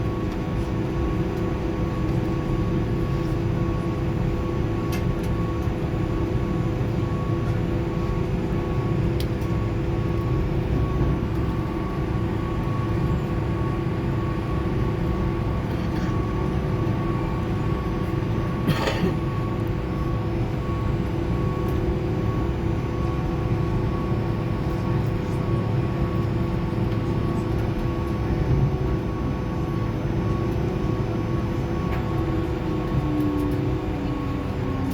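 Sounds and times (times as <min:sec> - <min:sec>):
aircraft cabin engine hum: 0:00.0 - 0:34.9.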